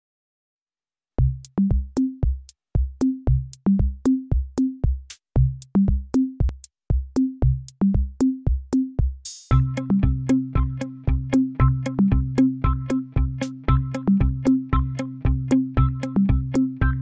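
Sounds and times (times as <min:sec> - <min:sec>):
electronic drum-machine music: 0:01.2 - 0:17.0.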